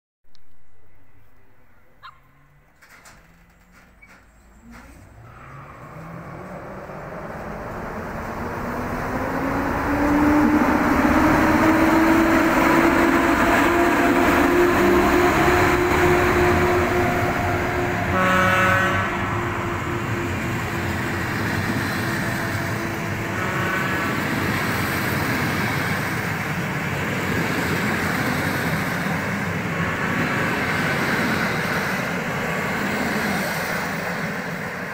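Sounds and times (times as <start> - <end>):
train carriages rumbling past: 0.5 - 34.9
electric locomotive motor whine: 5.1 - 34.9.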